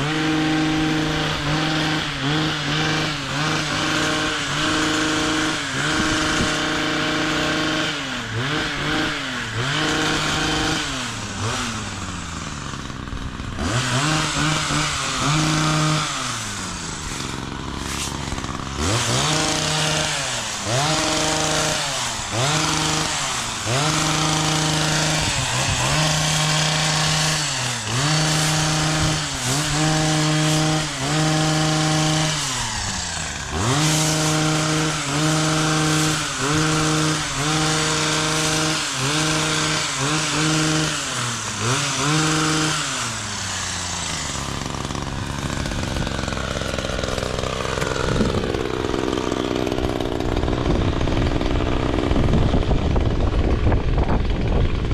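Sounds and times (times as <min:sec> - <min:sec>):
chainsaw revving while cutting: 0:00.0 - 0:54.9.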